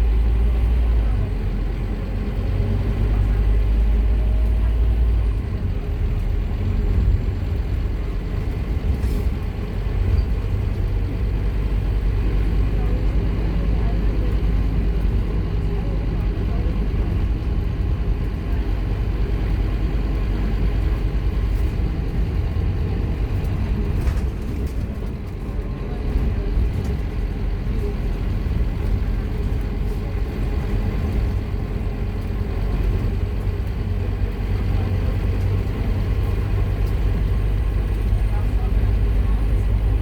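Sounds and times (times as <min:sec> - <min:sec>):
bus engine under load: 0:00.0 - 0:40.0.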